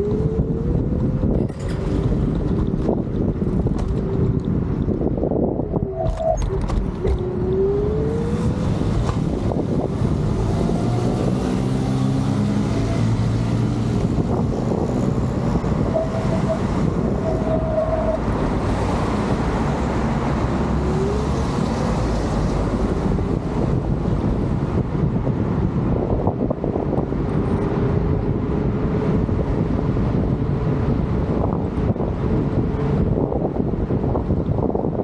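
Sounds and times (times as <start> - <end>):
scooter road rumble: 0.0 - 35.0
street traffic: 0.0 - 35.0
wind on microphone: 0.0 - 35.0.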